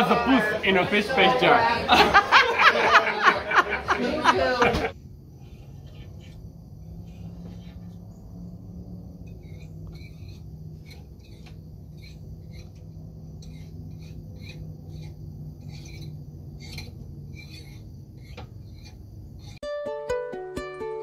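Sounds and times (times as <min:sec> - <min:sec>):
steady low hum: 0:00.0 - 0:19.6
birds chirping: 0:01.9 - 0:19.6.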